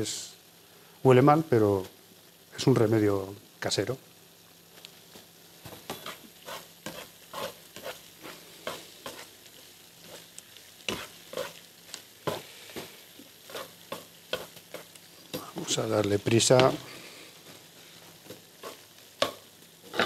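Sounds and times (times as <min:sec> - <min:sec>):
onion sizzling in oil: 0:00.0 - 0:20.0.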